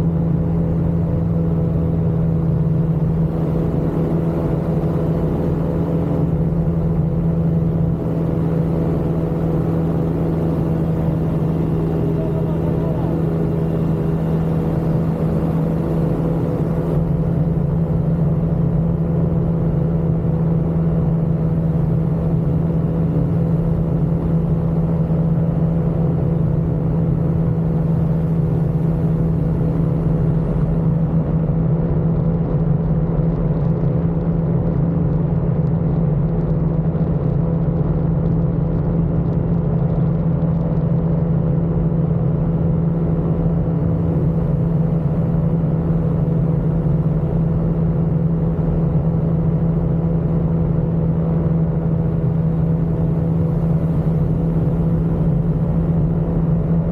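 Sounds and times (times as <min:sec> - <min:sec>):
aircraft engine droning: 0:00.0 - 0:32.2, 0:40.6 - 0:56.9.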